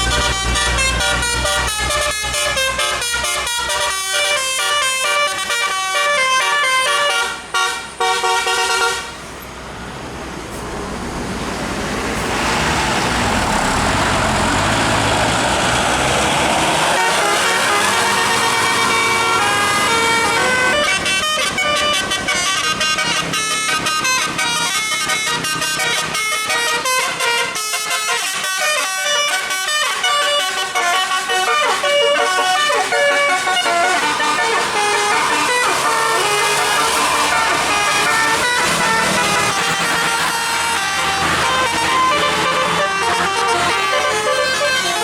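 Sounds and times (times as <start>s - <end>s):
musical bus horn tune: 0.0s - 9.2s, 16.3s - 45.0s
bus passing on wet road: 0.0s - 45.0s.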